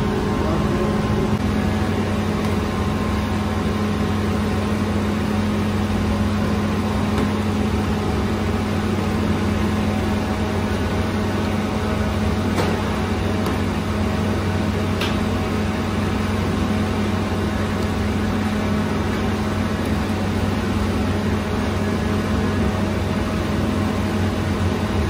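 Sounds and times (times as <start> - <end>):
oven burner and exhaust fan hum: 0.0 - 25.0.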